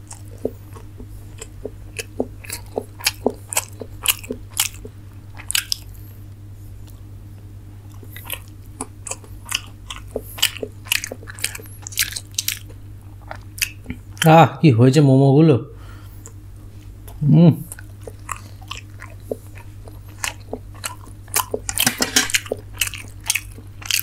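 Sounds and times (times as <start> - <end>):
person chewing food: 0.0 - 14.3, 15.9 - 24.0.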